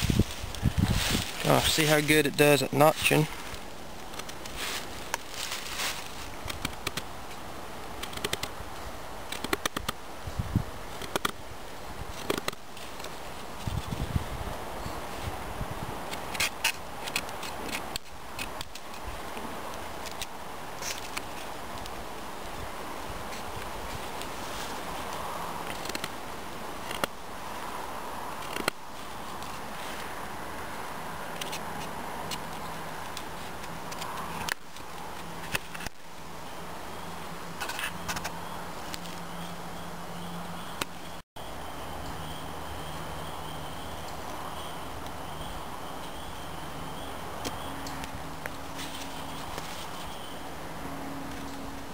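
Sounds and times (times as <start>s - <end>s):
background hiss: 0.0s - 51.9s.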